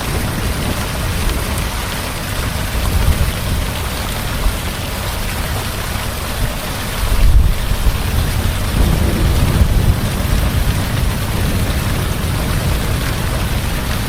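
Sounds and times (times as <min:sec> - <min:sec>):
heavy rain falling: 0:00.0 - 0:14.0
thunder rumbling: 0:00.0 - 0:14.0.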